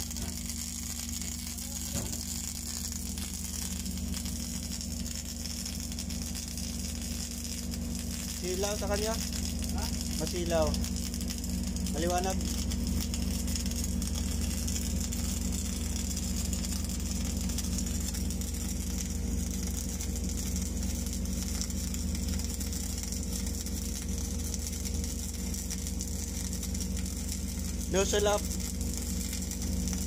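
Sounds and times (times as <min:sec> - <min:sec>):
low welding machine hum: 0:00.0 - 0:30.0
welding arc sizzling crackle: 0:00.0 - 0:30.0.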